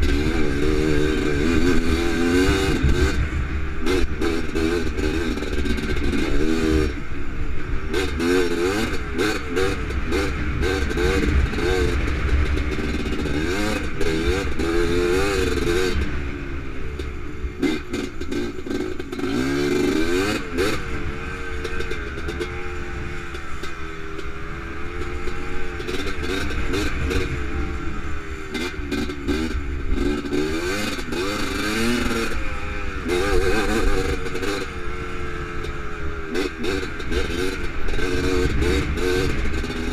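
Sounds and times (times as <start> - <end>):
clatter over bumps: 0.0 - 16.2, 16.9 - 39.9
two-stroke engine revving: 0.0 - 39.9.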